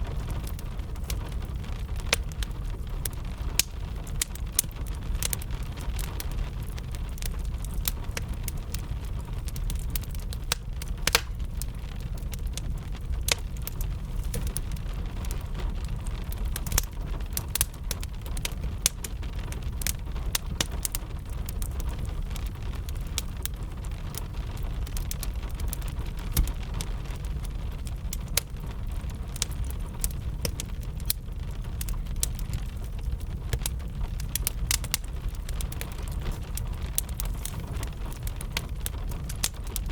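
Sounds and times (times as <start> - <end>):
constant low rumble: 0.0 - 39.9
rain pattering: 0.0 - 39.9
wood fire crackling and popping: 0.0 - 39.9.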